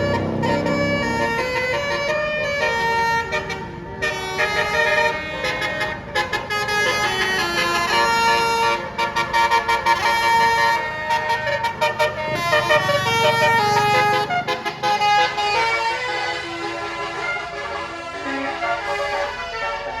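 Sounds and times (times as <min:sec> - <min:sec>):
bus multi-tone musical horn: 0:00.0 - 0:20.0.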